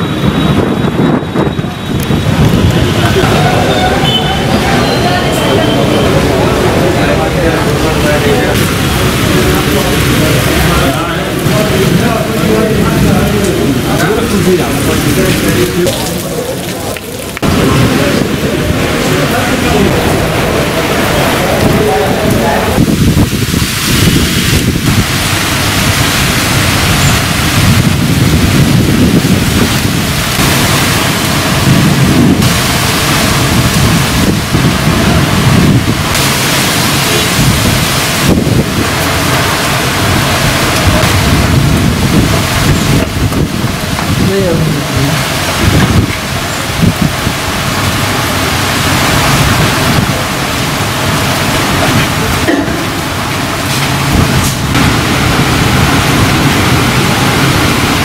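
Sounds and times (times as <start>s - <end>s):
gusting wind on microphone: 0.0s - 58.0s
steady rain hiss: 1.9s - 58.0s.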